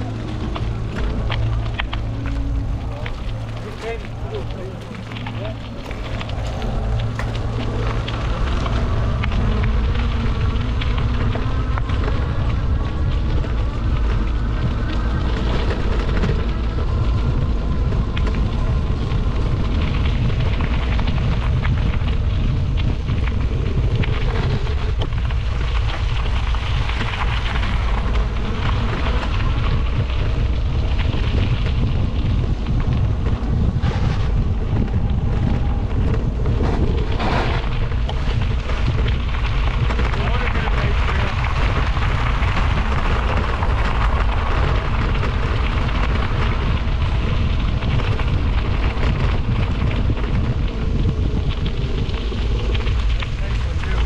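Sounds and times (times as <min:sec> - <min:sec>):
tyres crackling on dirt trail: 0:00.0 - 0:54.0
wind buffeting microphone: 0:00.0 - 0:54.0.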